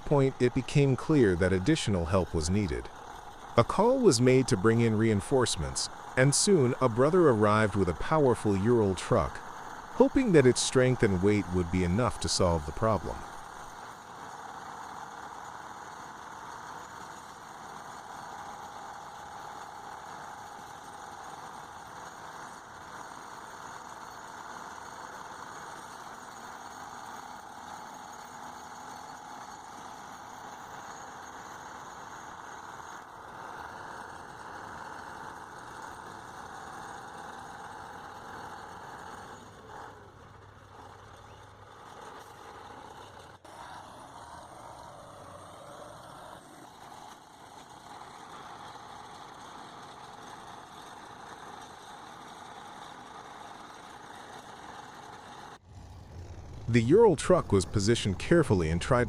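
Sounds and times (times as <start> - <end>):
heavy vehicle engine idling: 0.0 - 59.0.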